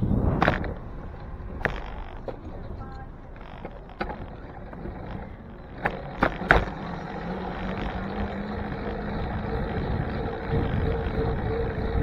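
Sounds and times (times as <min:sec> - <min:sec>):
bicycle tyres rumbling: 0:00.0 - 0:12.0
wind: 0:00.0 - 0:12.0
bike knocking over bumps: 0:01.6 - 0:11.4.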